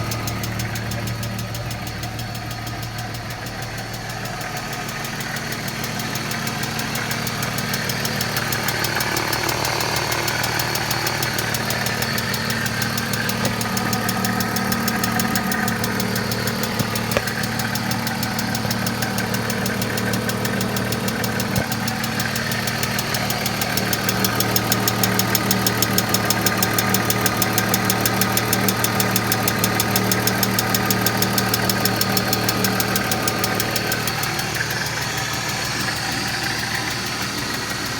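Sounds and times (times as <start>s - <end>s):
car engine running: 0.0s - 37.9s
valvetrain lifters ticking: 0.0s - 37.9s.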